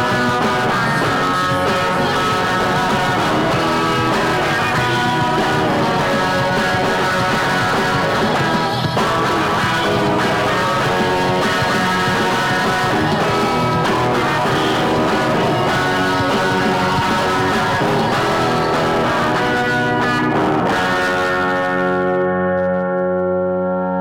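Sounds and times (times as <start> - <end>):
guitar rock music: 0.0 - 24.0.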